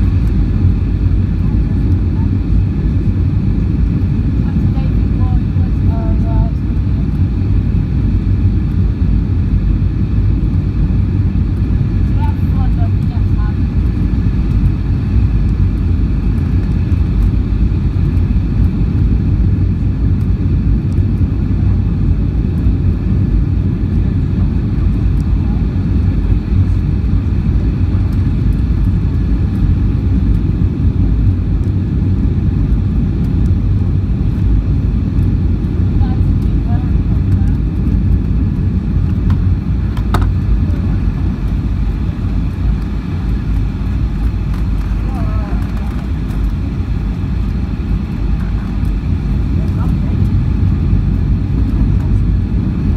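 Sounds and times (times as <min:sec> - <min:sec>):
airplane cabin engine rumble: 0:00.0 - 0:52.9
faint steady whine: 0:00.0 - 0:52.9.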